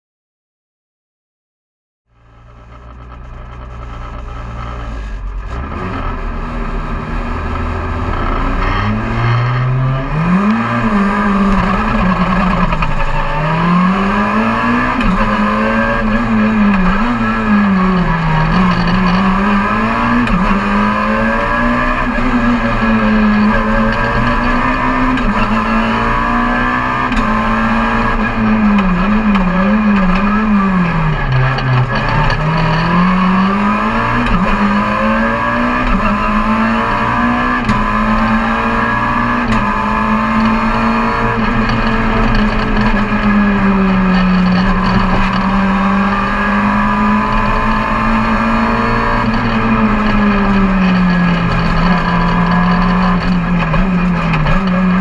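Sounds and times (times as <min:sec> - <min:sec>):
rally car engine revving: 0:02.1 - 0:55.0.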